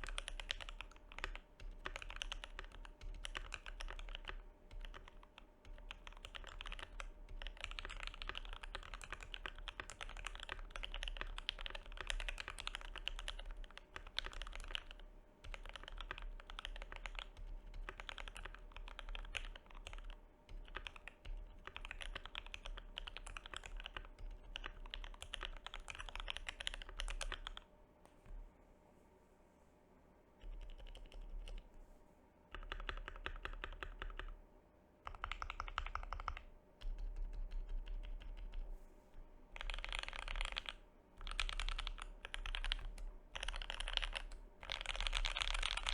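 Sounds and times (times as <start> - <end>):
mechanical keyboard typing: 0.0 - 27.6, 30.4 - 31.6, 32.5 - 34.4, 35.0 - 38.7, 39.6 - 45.9.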